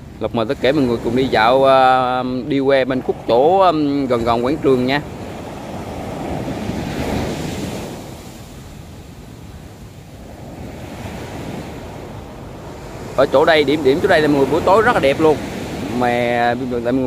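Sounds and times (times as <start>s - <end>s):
heavy surf breaking on sand: 0.0s - 17.0s
wind buffeting microphone: 0.0s - 17.0s.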